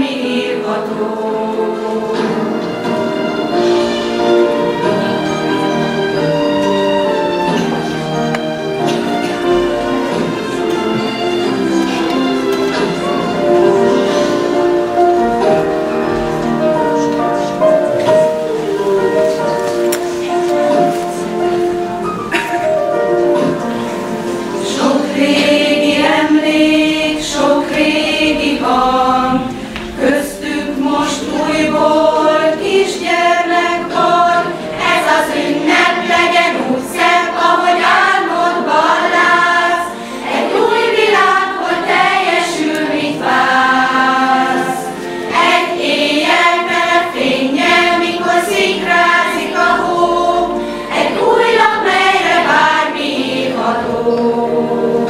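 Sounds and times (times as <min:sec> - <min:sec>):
choir of women and children singing: 0:00.0 - 0:19.4, 0:23.4 - 0:55.0.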